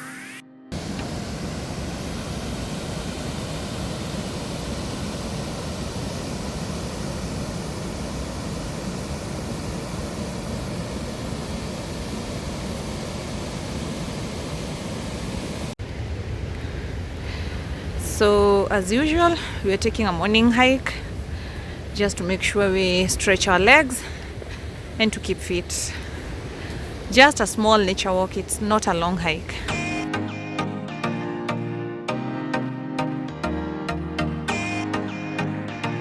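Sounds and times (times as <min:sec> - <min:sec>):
waterfall rushing: 0:00.7 - 0:30.0.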